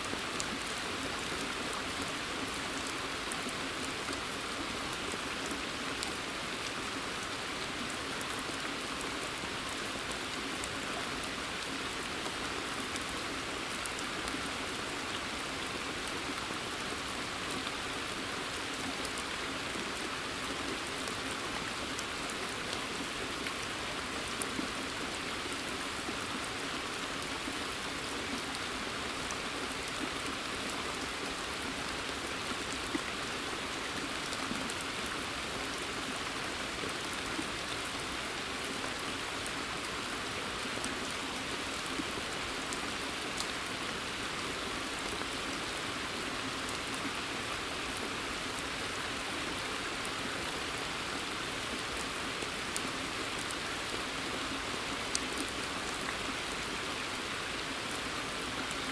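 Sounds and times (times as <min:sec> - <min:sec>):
rain falling in forest: 0:00.0 - 0:58.9.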